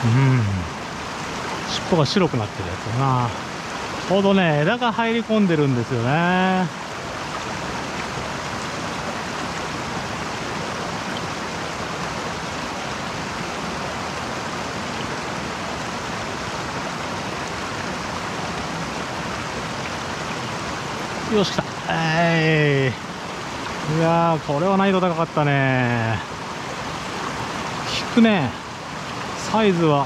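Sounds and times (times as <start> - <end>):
stream flowing over stones: 0.0 - 30.0.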